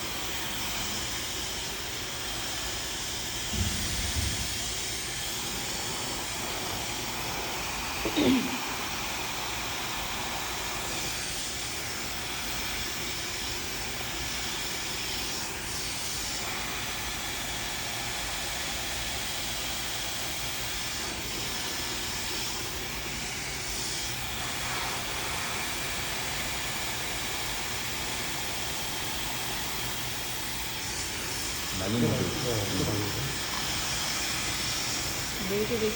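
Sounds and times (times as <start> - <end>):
hair dryer running: 0.0 - 35.9.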